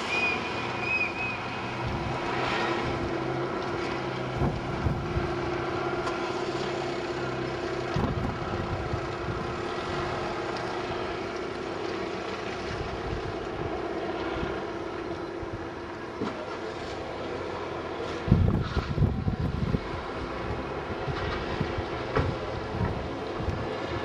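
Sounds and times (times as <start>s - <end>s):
wind rumble on microphone: 0.9s - 15.9s, 17.7s - 24.0s.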